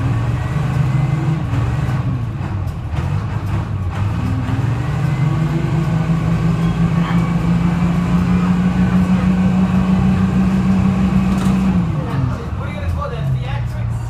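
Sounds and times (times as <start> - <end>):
diesel bus engine running: 0.0 - 14.0.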